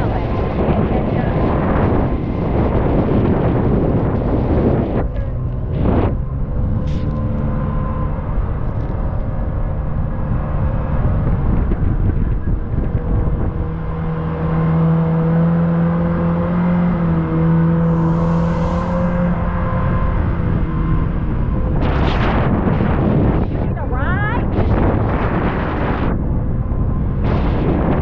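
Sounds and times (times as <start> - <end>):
engine drone on water: 0.0 - 28.0.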